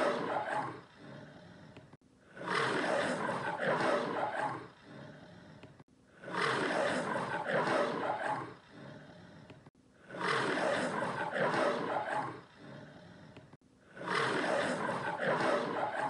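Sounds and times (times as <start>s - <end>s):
lion roaring: 0.0s - 16.0s.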